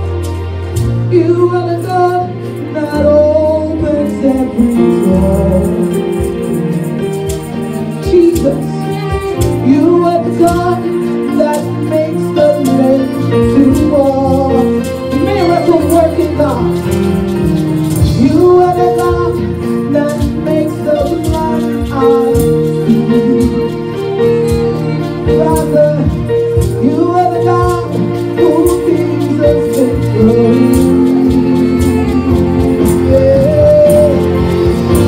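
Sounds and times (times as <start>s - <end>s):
gospel singing with band: 0.0s - 35.0s.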